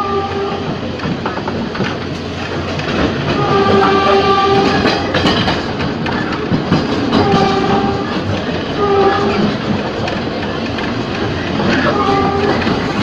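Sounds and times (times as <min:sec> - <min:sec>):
electric train running: 0:00.0 - 0:13.0
wheels clattering over rails: 0:00.0 - 0:13.0.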